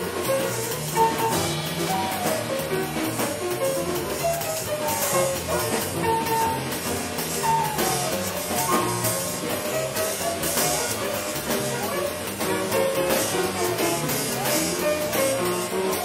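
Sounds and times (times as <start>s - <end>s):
drums and cymbals: 0.0s - 16.0s
jazz combo lead line: 0.0s - 16.0s.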